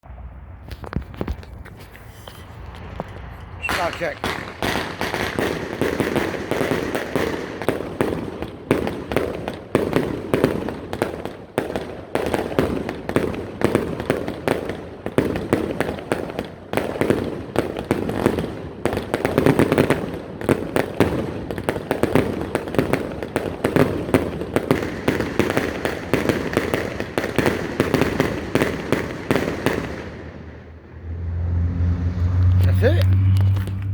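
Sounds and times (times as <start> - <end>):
firework cake bangs: 2.6 - 30.3.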